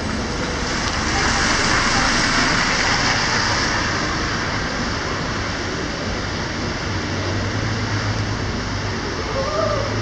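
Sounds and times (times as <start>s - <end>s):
bus tyres hissing on wet road: 0.0s - 10.0s
rain hiss: 0.0s - 10.0s
street traffic: 0.0s - 10.0s.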